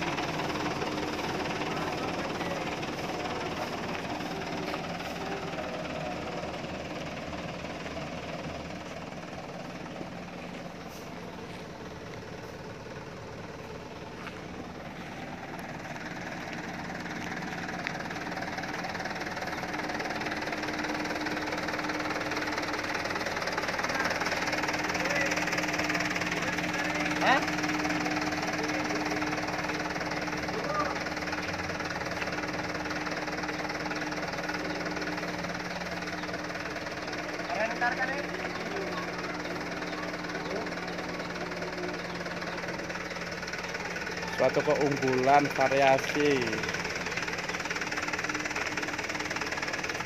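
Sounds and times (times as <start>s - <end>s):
diesel engine idling: 0.0s - 50.0s.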